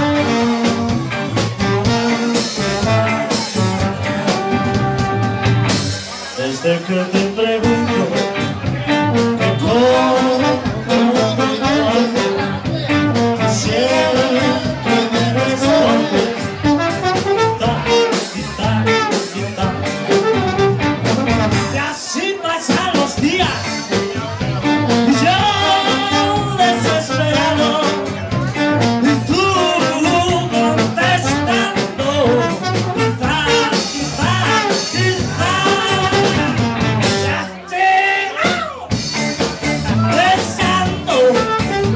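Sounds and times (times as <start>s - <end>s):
trombone: 0.0s - 6.1s, 6.9s - 21.9s, 23.8s - 37.5s, 39.8s - 41.9s
steady drum beat: 0.0s - 6.4s, 7.1s - 21.8s, 22.6s - 37.5s, 38.4s - 41.9s
electric guitars: 0.0s - 21.9s, 22.6s - 37.6s, 38.3s - 41.9s
bass: 0.0s - 41.9s.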